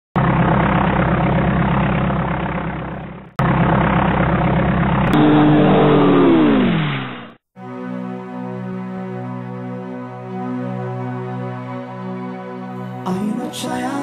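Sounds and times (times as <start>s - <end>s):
airplane engine drone: 0.2s - 13.8s
descending whine: 0.4s - 14.0s.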